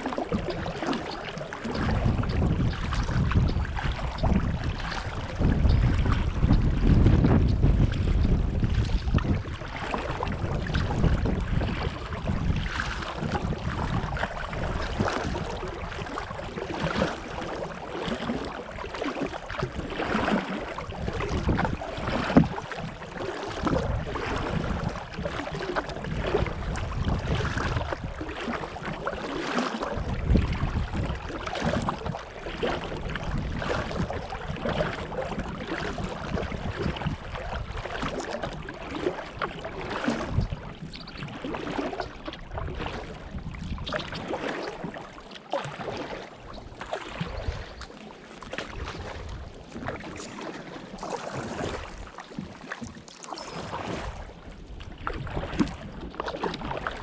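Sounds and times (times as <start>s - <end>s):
paddle splashing in water: 0.0s - 57.0s
wind rumble on microphone: 0.0s - 57.0s.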